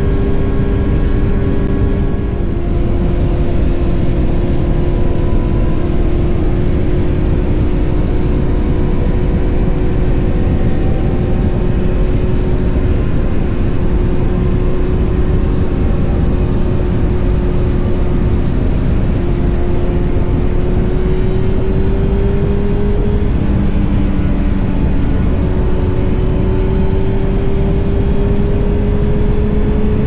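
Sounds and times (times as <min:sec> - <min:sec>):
heavy wind rush: 0:00.0 - 0:30.0
motorcycle engine drone: 0:00.0 - 0:30.0.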